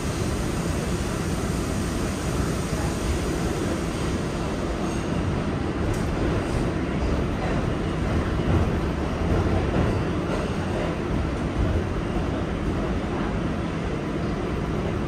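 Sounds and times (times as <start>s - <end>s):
subway train rumbling on track: 0.0s - 15.0s.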